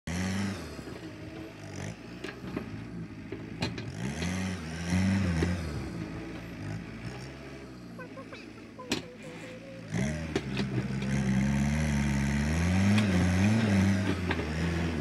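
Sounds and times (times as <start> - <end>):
dozer blade pushing soil: 0.1 - 15.0
tractor diesel engine revving: 0.1 - 15.0.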